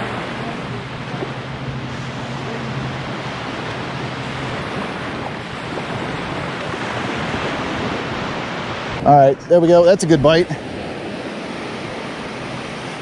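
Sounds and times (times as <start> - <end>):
low steady hum: 0.0 - 13.0
waves breaking on shore: 0.0 - 13.0
wind on microphone: 0.0 - 13.0.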